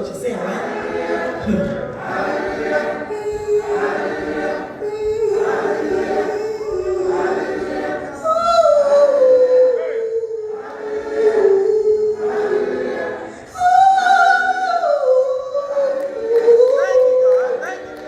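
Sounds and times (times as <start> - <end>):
gospel choir singing: 0.0 - 18.0.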